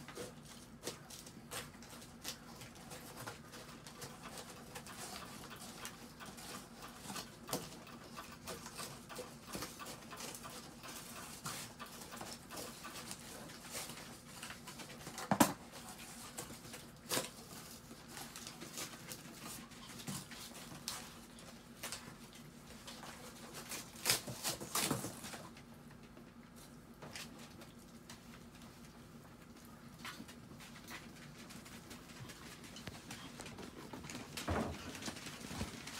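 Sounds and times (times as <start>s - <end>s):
dog paws pattering on plastic: 0.0s - 35.9s.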